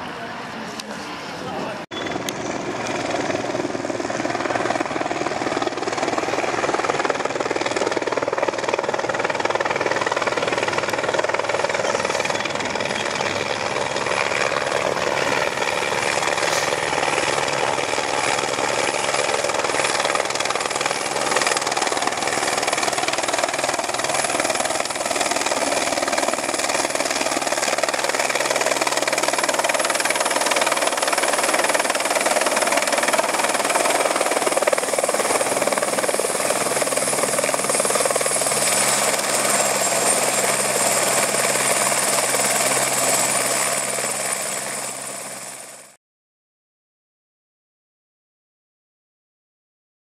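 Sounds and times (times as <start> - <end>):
helicopter rotor and turbine: 0.0 - 46.0.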